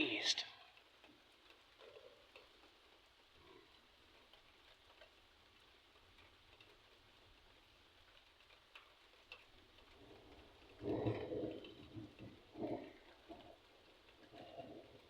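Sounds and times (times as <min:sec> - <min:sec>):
faint low hiss: 0:00.0 - 0:15.0
faint ticks: 0:00.0 - 0:15.0.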